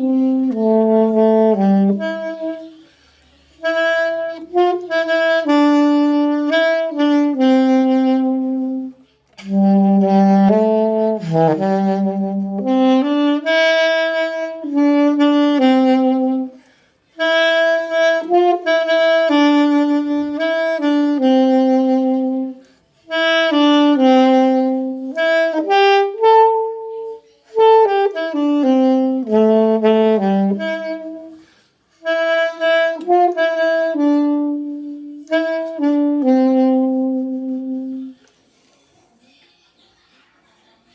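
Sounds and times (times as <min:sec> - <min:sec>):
alto saxophone melody: 0:00.0 - 0:38.3.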